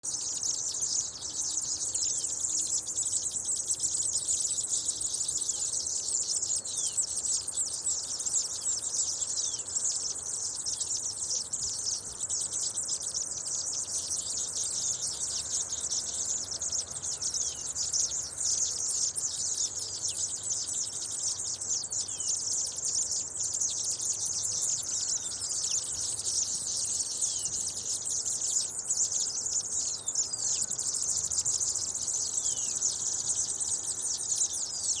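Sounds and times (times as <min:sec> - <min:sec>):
small birds twittering: 0:00.0 - 0:35.0.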